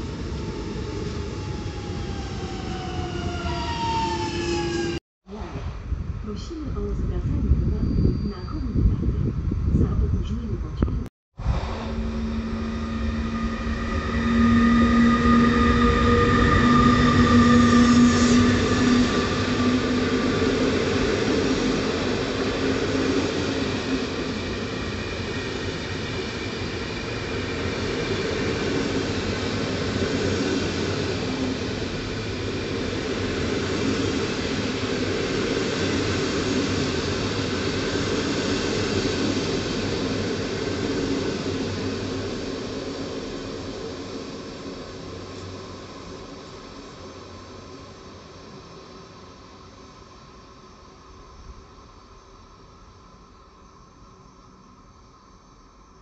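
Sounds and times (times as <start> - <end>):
train whine: 0.0 - 10.6, 11.4 - 56.0.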